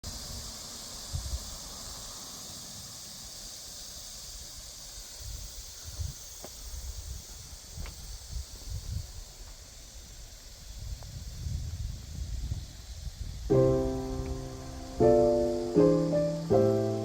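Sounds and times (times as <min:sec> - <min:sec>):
high-pitched countryside hiss: 0:00.0 - 0:17.0
wind gusts on microphone: 0:00.1 - 0:02.2, 0:05.2 - 0:17.0.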